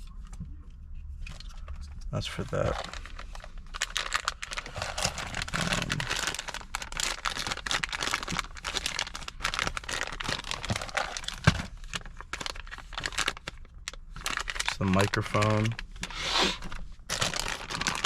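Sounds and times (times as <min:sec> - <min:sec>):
plastic packaging crinkling: 0:02.6 - 0:18.0.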